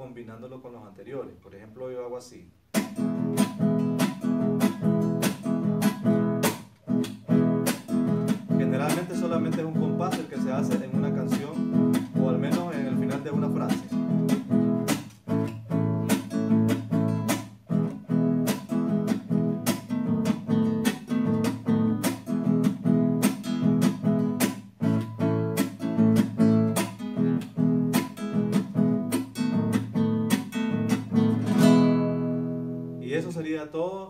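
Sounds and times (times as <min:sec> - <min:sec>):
palm slaps on guitar strings: 0:02.7 - 0:10.9, 0:11.9 - 0:31.2
classical guitar strumming: 0:02.7 - 0:33.3.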